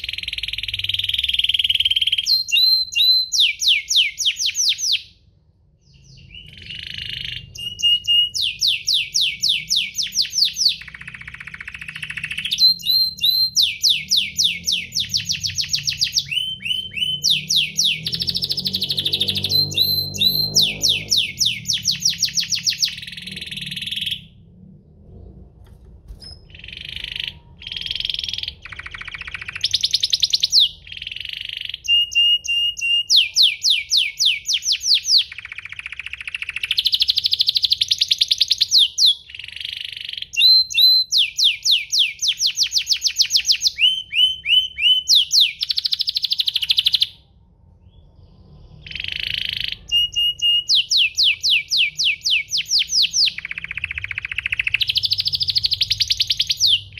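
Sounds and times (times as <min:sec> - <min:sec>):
canary singing: 0:00.0 - 0:24.5, 0:26.1 - 0:56.9.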